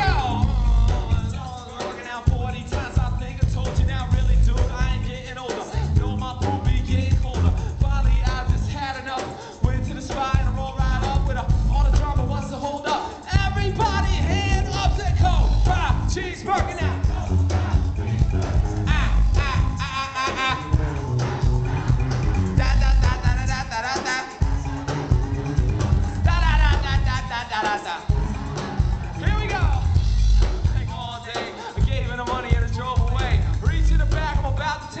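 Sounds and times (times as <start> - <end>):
person rapping: 0.0 - 21.4, 22.6 - 24.7, 26.2 - 28.3, 29.1 - 35.0
band with heavy bass and drums: 0.0 - 35.0.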